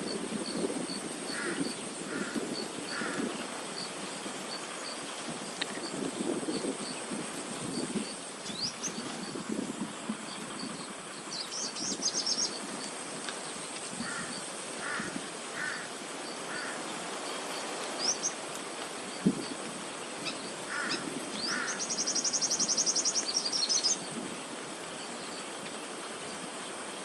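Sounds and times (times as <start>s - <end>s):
wild birds chirping: 0.0s - 27.0s.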